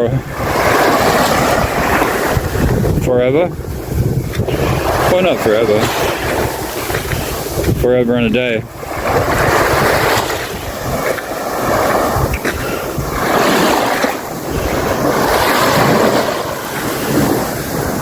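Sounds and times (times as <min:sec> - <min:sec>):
sea waves washing onto beach: 0:00.0 - 0:18.0
wind buffeting microphone: 0:00.0 - 0:18.0.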